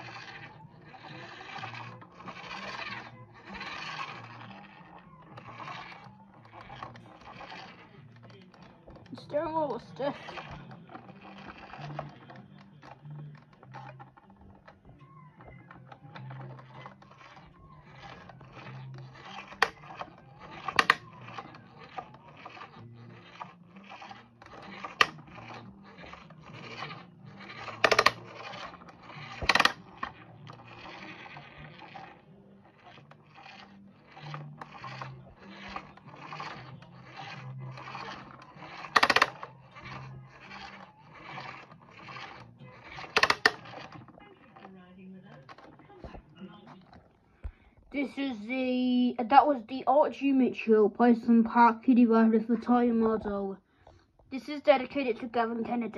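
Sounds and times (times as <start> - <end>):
toy wheels scraping on floor: 0.0 - 55.9.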